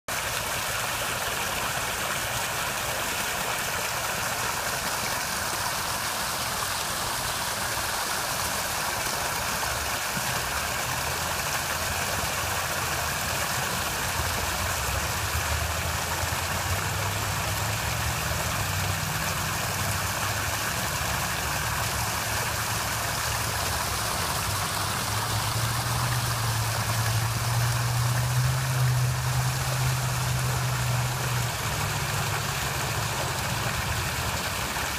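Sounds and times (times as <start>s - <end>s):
waterfall splashing into pool: 0.1s - 34.9s.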